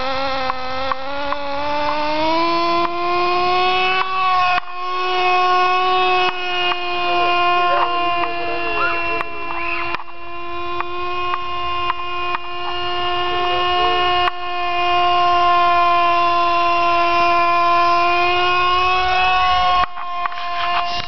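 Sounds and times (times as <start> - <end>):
model helicopter engine buzzing: 0.0 - 21.0.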